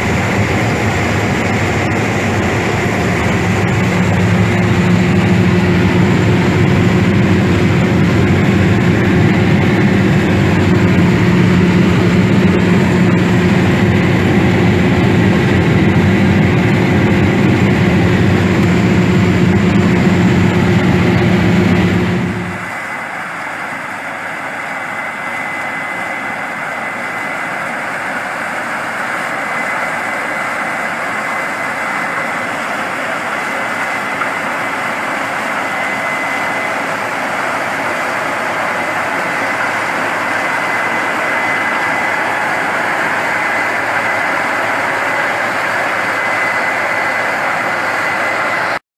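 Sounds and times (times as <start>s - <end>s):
combine harvester running: 0.0s - 48.8s.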